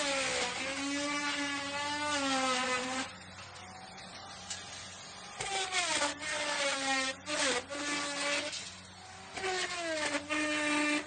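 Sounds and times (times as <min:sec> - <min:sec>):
router cutting wood: 0:00.0 - 0:03.2, 0:04.4 - 0:11.0.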